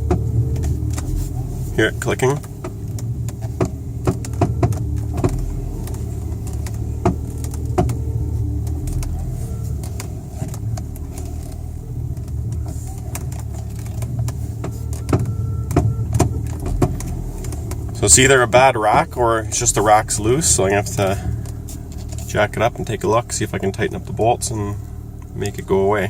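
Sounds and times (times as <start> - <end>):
steering rack clicking: 0.0 - 25.8
engine hum: 0.0 - 26.0.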